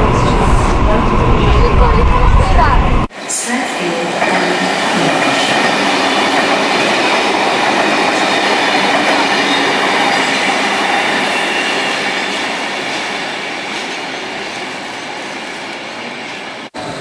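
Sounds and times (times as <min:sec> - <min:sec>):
electric train passing: 0:00.0 - 0:17.0
wheels rushing on rails: 0:00.0 - 0:17.0.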